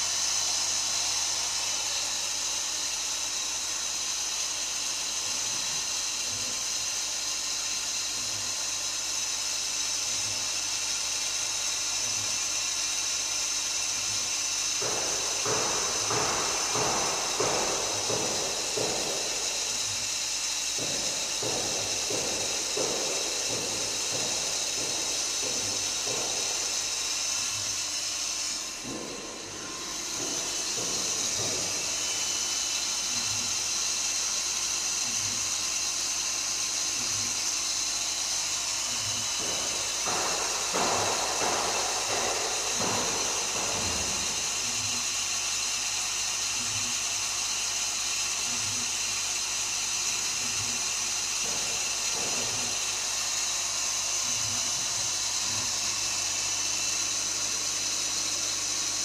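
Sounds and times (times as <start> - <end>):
coolant spray hiss: 0.0 - 59.0
high steady machine tones: 0.0 - 59.0.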